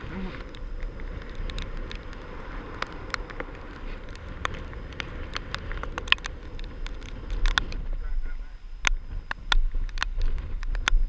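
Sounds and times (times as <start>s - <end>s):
raindrops tapping recording device: 0.0s - 11.0s
wind buffeting microphone: 0.0s - 11.0s
wind-driven rain: 0.0s - 11.0s.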